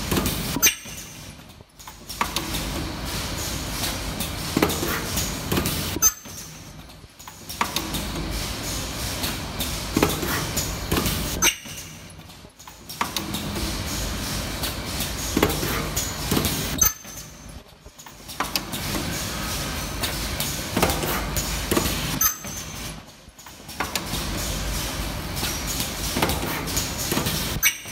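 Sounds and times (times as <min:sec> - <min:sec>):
welding machine hissing and clattering: 0:00.0 - 0:27.9.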